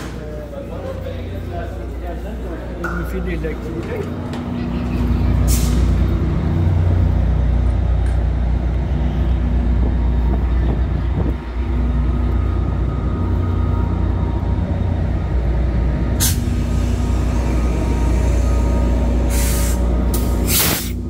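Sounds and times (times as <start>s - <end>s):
diesel locomotive idling: 0.0s - 21.0s.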